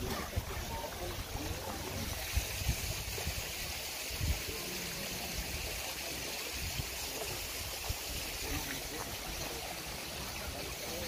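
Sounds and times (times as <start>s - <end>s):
spring water running: 0.0s - 11.0s.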